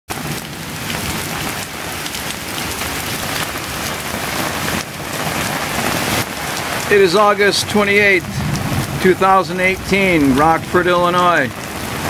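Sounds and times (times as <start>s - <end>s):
heavy rain on pavement: 0.1s - 12.0s.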